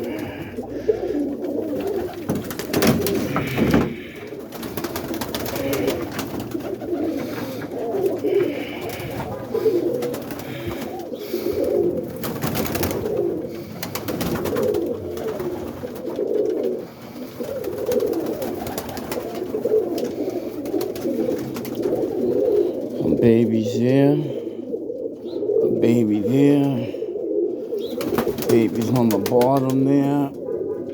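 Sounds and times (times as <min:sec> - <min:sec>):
pigeons cooing: 0:00.0 - 0:30.9.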